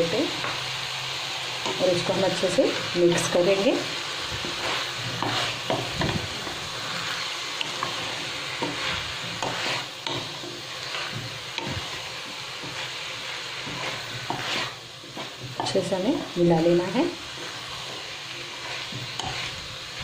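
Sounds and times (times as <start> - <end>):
oil sizzling: 0.0 - 20.0
spatula scraping vegetables in pan: 1.6 - 16.0, 16.8 - 20.0.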